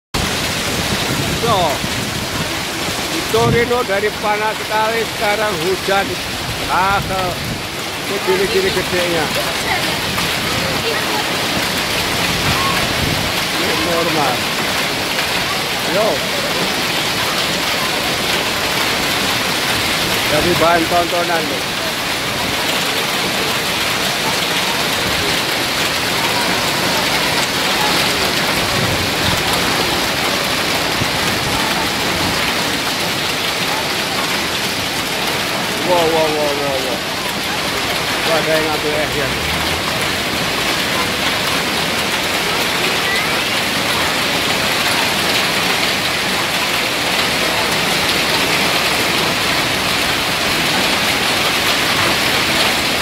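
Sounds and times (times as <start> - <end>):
hail and rain pelting hard surfaces: 0.2 - 53.0.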